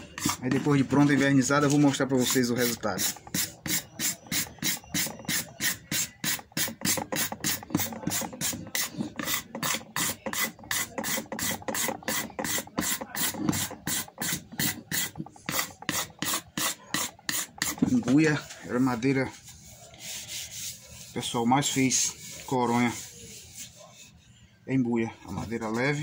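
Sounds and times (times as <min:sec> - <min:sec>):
hand scraper rasping on wood: 0:00.0 - 0:24.2.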